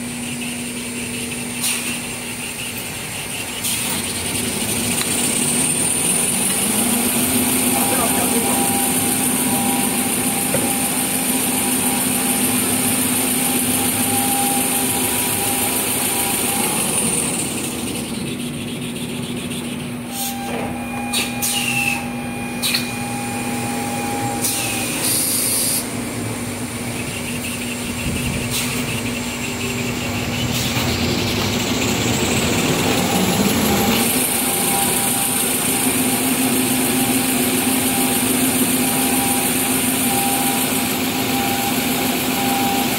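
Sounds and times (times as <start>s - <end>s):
machine hum with whine tones: 0.0s - 42.9s.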